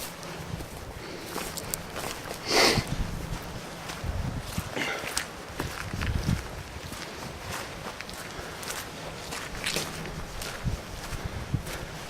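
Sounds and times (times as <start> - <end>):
footsteps walking: 0.0 - 12.0
wind rumble on microphone: 0.0 - 12.0.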